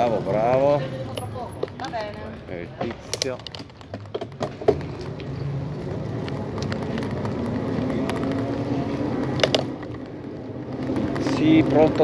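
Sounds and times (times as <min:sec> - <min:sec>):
bicycle road noise rumble: 0:00.0 - 0:12.0.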